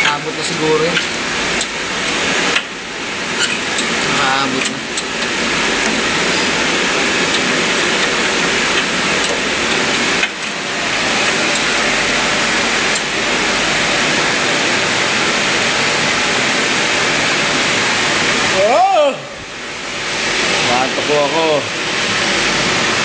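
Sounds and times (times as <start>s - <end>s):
water rushing through pipes: 0.0s - 23.0s.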